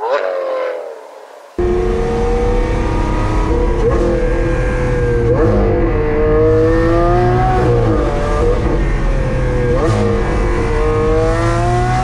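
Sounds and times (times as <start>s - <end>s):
car engine accelerating: 1.6s - 12.0s.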